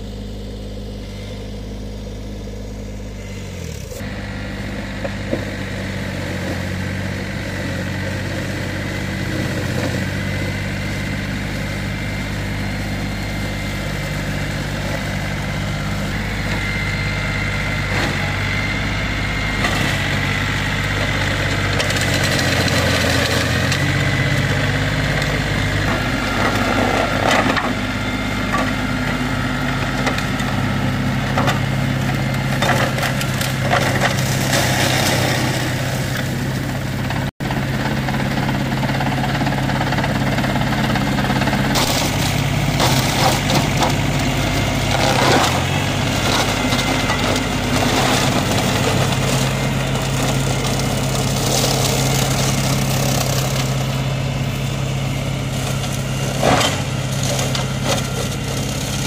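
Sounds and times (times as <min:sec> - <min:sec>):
mulcher shredding dry fronds: 0:00.0 - 0:59.0
tractor diesel engine running: 0:00.0 - 0:59.0.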